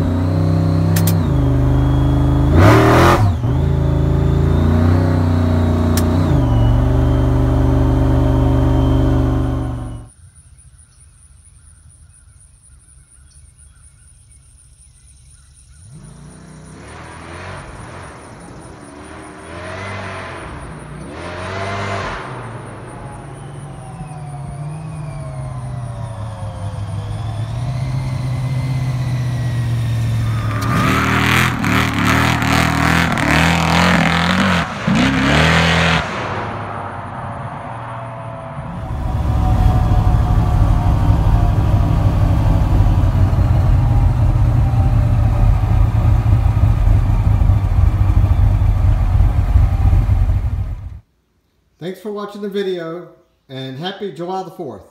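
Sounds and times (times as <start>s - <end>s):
engine revving and accelerating: 0.0s - 10.1s, 15.8s - 51.0s.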